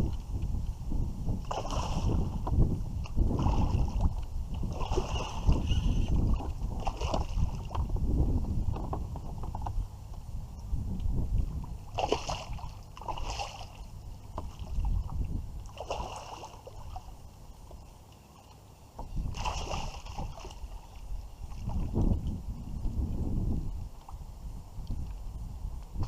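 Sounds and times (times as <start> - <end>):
water splashing around kayak: 0.0 - 26.0.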